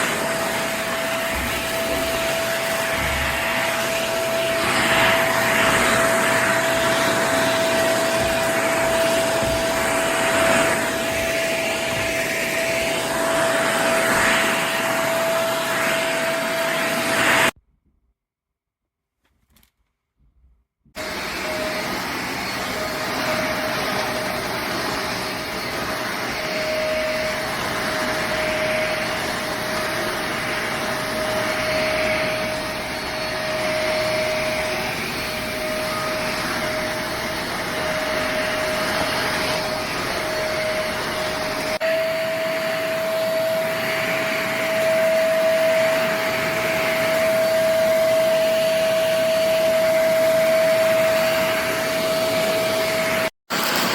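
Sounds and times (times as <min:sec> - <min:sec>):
vacuum cleaner motor whine: 0:00.0 - 0:17.6, 0:21.0 - 0:53.9.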